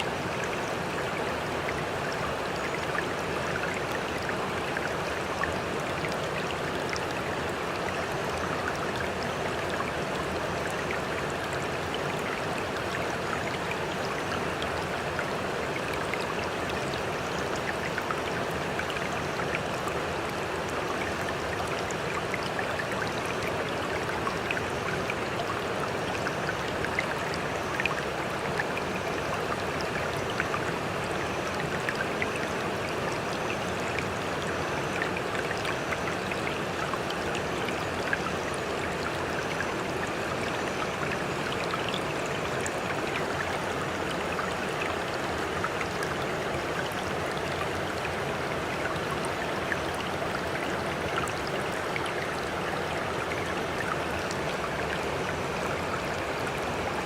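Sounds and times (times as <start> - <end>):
water crackles and splashes: 0.0 - 57.0.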